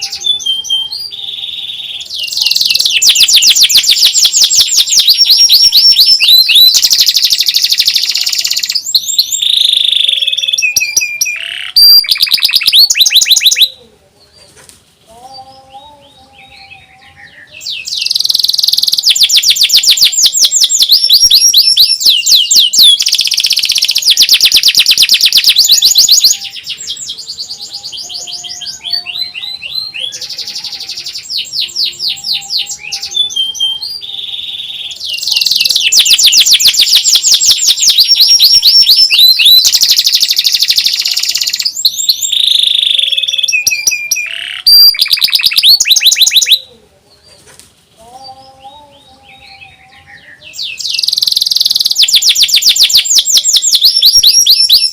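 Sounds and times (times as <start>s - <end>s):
canary singing trills: 0.0s - 14.5s, 15.1s - 47.4s, 48.0s - 54.9s.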